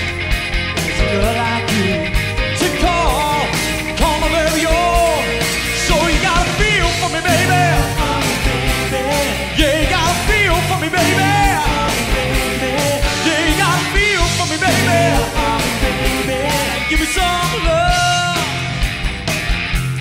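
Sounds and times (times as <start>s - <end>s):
drums steady beat: 0.0s - 20.0s
live rock band playing: 0.0s - 20.0s.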